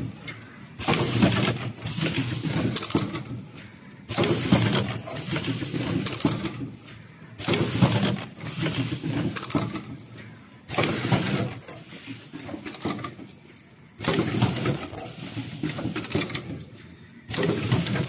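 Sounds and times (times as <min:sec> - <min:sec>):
welding machine mechanical clatter: 0:00.0 - 0:18.0.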